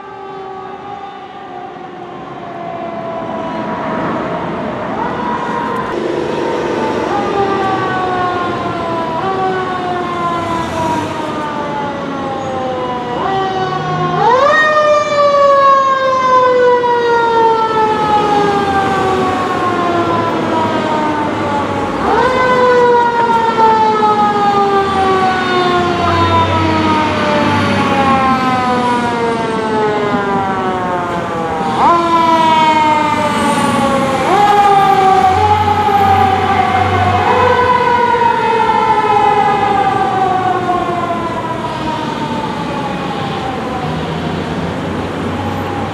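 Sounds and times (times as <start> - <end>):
fire truck siren wailing: 0.0 - 45.9.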